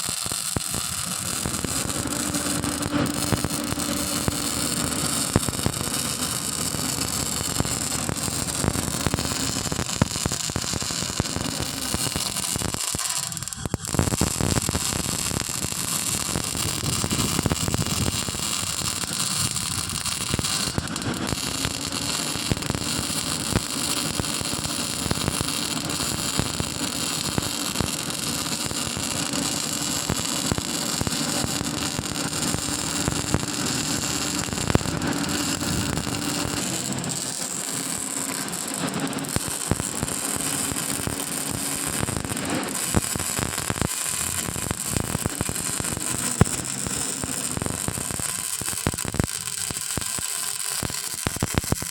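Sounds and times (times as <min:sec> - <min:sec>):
welding arc crackling and sizzling: 0:00.0 - 0:51.9.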